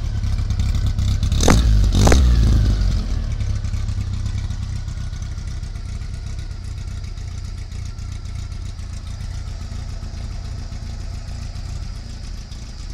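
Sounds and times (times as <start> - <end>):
car engine rumbling: 0.0 - 12.9.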